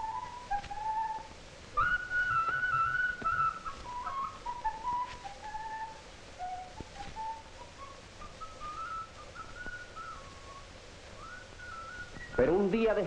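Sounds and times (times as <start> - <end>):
flute playing slow melody: 0.0 - 12.6
film soundtrack hiss: 0.0 - 13.0.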